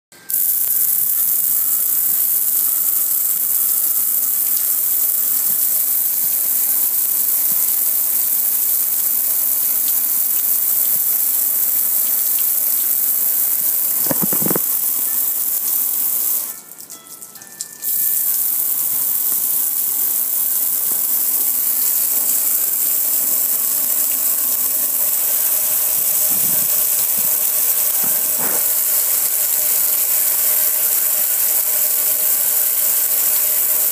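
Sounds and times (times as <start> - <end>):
water spray hissing on metal grill: 0.3 - 33.9.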